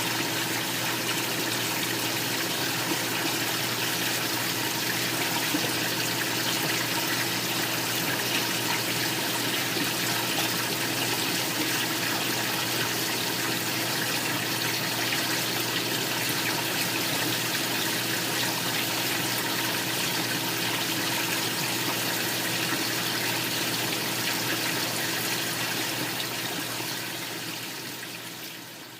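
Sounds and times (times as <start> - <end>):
water splashing and trickling: 0.0 - 28.9.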